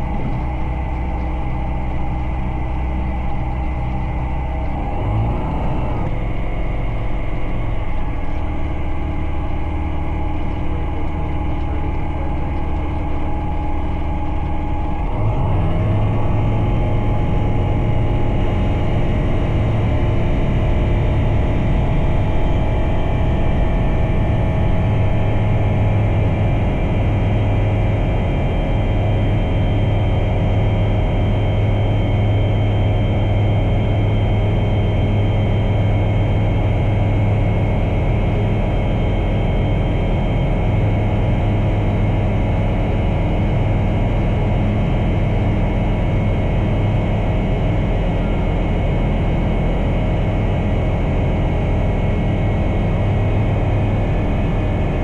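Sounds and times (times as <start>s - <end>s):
aircraft engine and propeller: 0.0s - 55.0s.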